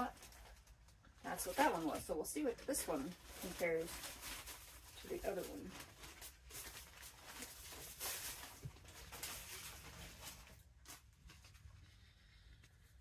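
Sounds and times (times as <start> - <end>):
plastic packaging rustling: 0.0 - 12.1
clothing rustling: 0.0 - 13.0.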